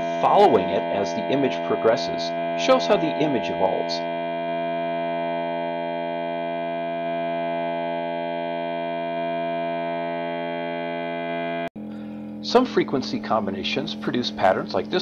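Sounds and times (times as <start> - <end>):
electronic test tone: 0.0 - 15.0.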